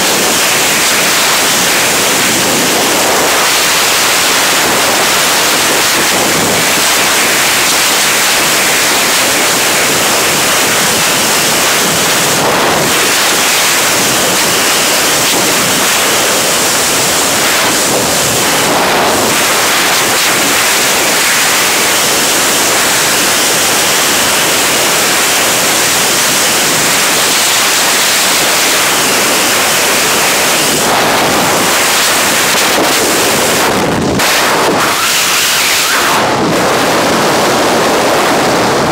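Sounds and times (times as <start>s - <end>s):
freefall wind buffeting microphone: 0.0s - 38.9s.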